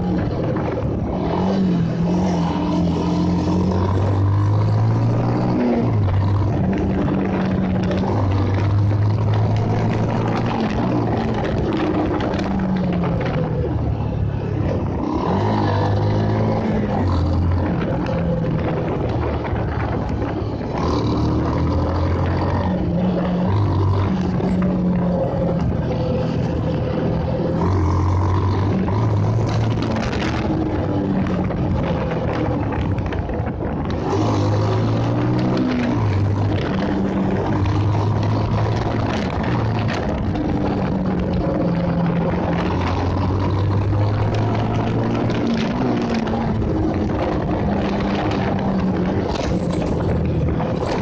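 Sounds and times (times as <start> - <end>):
motorcycle engine running: 0.0 - 51.0
road and wind noise: 0.0 - 51.0.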